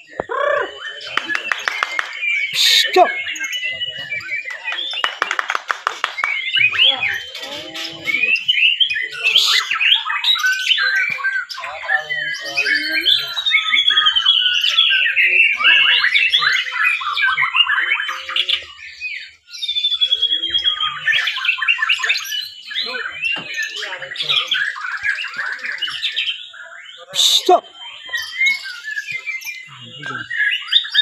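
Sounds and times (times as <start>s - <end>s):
birds singing whistles and trills: 0.0s - 31.0s.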